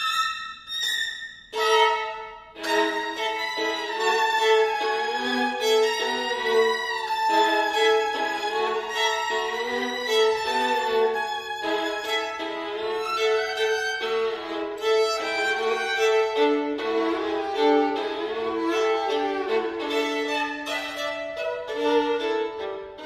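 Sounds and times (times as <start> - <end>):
two violins playing a duet: 0.0 - 23.0.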